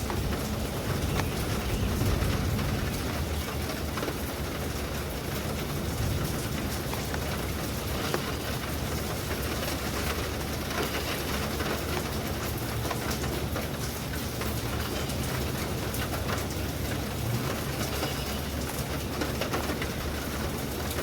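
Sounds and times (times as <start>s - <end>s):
steady rain drops: 0.0s - 21.0s.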